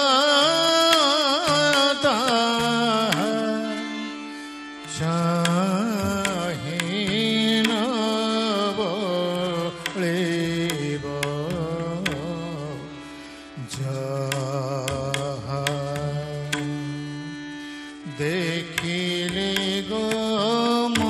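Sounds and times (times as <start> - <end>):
man singing ornamented melody: 0.0 - 4.2, 4.8 - 13.0, 13.6 - 17.4, 18.0 - 21.0
harmonium notes: 0.0 - 21.0.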